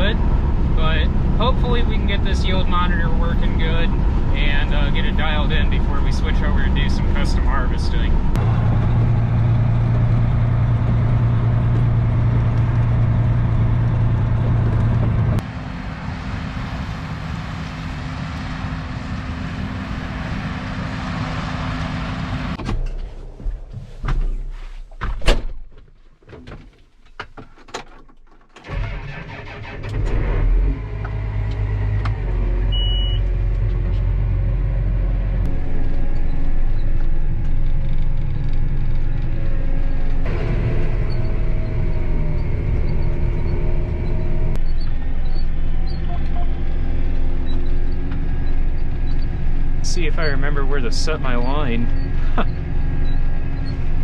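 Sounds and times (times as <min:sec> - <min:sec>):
diesel engine running: 0:00.0 - 0:23.7, 0:28.6 - 0:54.0.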